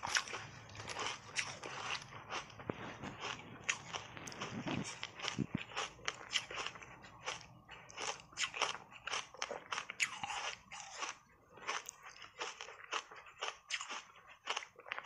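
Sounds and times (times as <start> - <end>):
ice being chewed crunching: 0.0 - 15.0.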